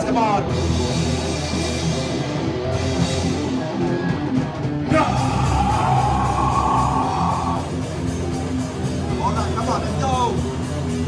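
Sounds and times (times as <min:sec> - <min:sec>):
heavy metal band playing live: 0:00.0 - 0:11.0.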